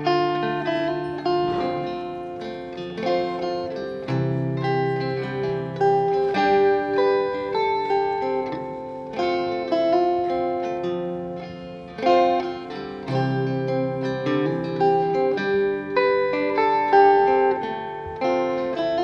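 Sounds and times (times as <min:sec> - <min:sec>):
acoustic guitar picking: 0:00.0 - 0:19.0.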